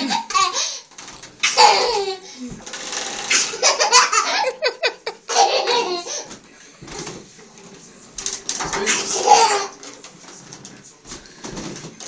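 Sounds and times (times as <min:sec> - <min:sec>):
plastic bottle clattering on radiator: 0:00.3 - 0:04.2, 0:05.3 - 0:12.0.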